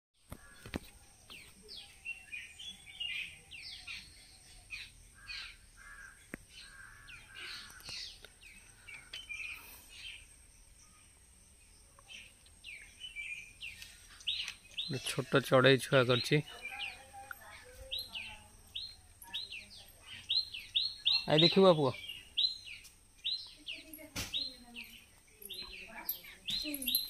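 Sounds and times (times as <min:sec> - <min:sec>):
small birds chirping: 0:00.2 - 0:27.0.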